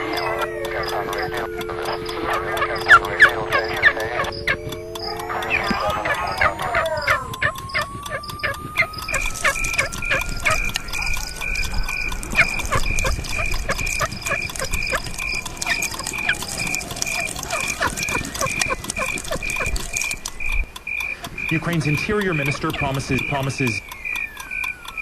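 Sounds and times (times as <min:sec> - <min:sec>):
thin whistle-like tone: 0:00.0 - 0:20.2
high electronic beeps: 0:00.0 - 0:20.5.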